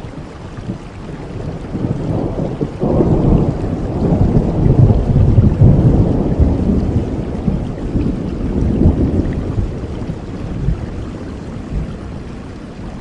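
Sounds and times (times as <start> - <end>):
steady rain: 0.0 - 13.0
thunder rolling: 1.7 - 13.0.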